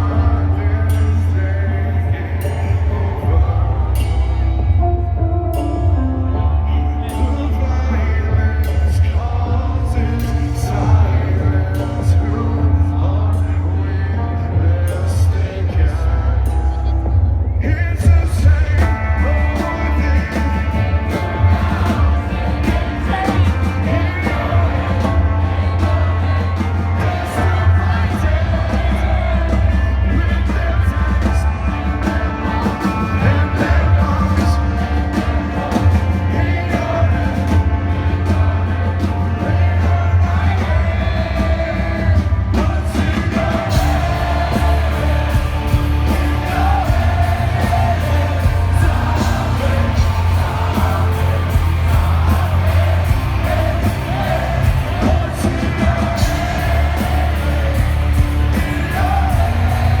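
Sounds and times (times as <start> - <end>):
heavy metal band playing live: 0.0 - 60.0
person singing lead vocal: 0.0 - 60.0.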